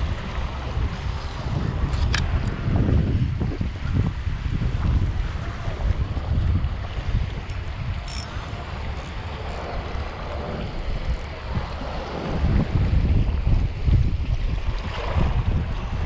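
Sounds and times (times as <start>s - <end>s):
waves washing around rocks: 0.0s - 16.0s
wind buffeting microphone: 0.0s - 16.0s.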